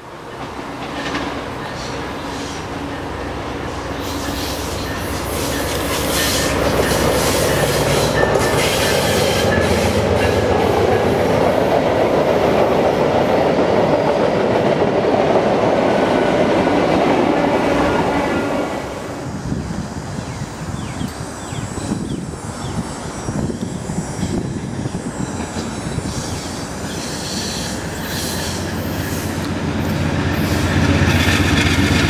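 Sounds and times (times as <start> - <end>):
train rumbling over rails: 0.0 - 32.0.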